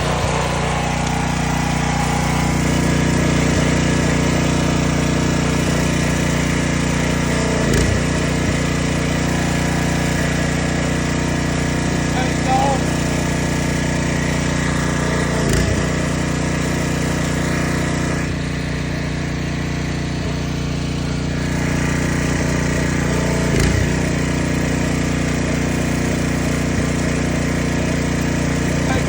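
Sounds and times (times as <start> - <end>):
pressure washer engine running: 0.0 - 29.0.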